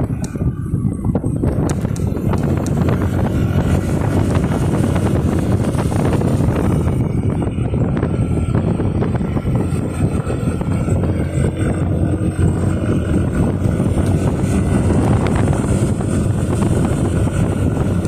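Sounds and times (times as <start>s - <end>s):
motorcycle engine running: 0.0s - 18.0s
wind rushing over microphone: 0.0s - 18.0s.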